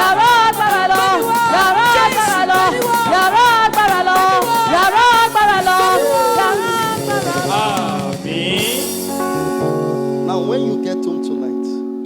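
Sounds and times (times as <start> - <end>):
person singing worship song: 0.0 - 11.8
instrumental backing with beat: 0.0 - 12.0.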